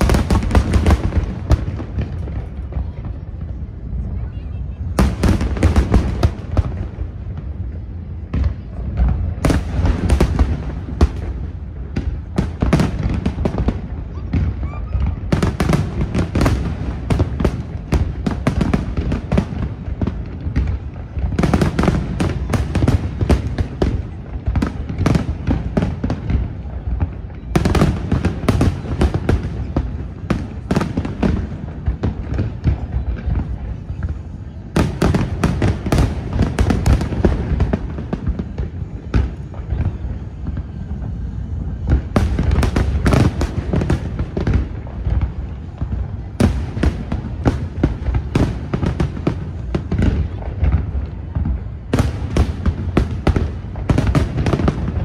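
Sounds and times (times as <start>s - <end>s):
fireworks booming: 0.0s - 55.0s
rapid fireworks crackling: 0.0s - 55.0s.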